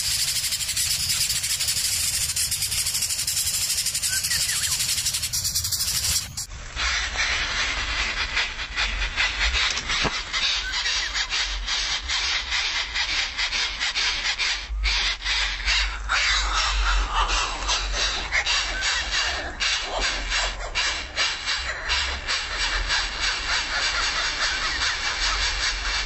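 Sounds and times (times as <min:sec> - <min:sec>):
nestlings rasping begging calls: 0:00.0 - 0:06.5, 0:09.2 - 0:26.0.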